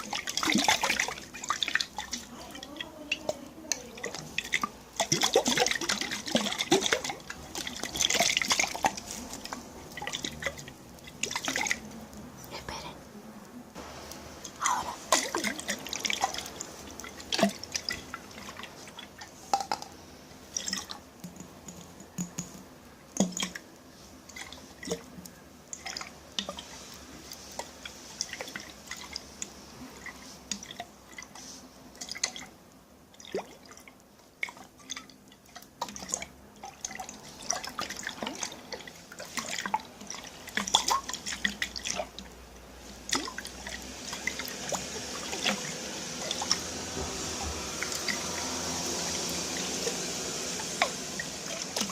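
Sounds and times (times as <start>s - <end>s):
water dripping in container: 0.0s - 12.5s, 14.1s - 51.9s.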